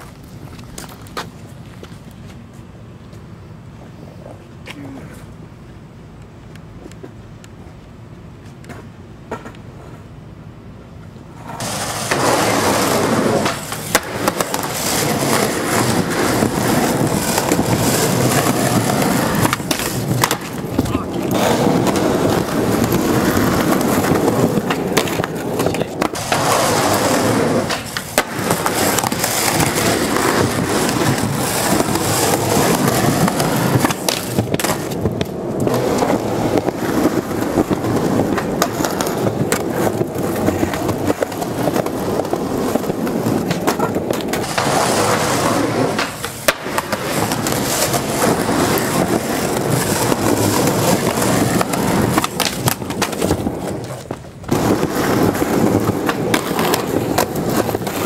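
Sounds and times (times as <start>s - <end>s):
skateboard wheels rolling on concrete: 0.0s - 58.0s.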